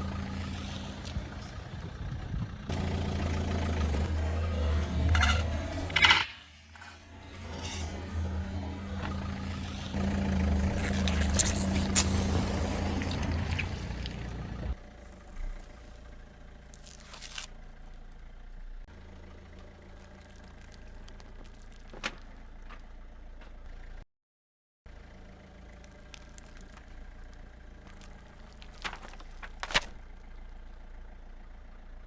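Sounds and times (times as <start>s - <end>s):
car engine running: 0.0s - 24.0s, 24.9s - 32.0s.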